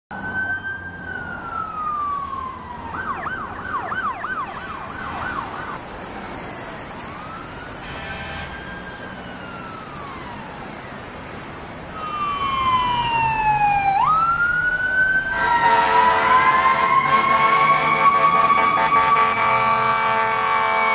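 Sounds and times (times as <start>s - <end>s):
multi-tone siren: 0.1s - 11.2s, 11.9s - 20.9s
emergency vehicle siren: 0.1s - 20.9s.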